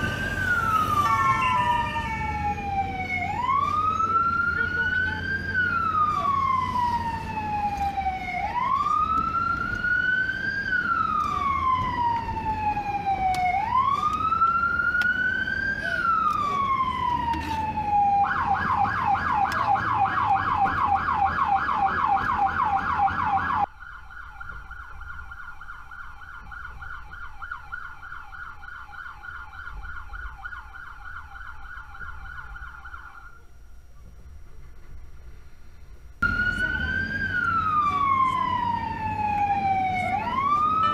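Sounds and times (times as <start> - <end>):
police siren wailing and yelping: 0.0 - 33.4, 36.2 - 40.9
engine and road rumble: 0.0 - 40.9.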